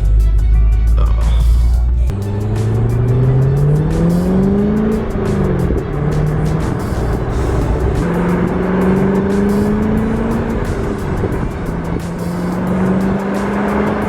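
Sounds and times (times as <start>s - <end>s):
car engine accelerating: 1.0s - 14.0s.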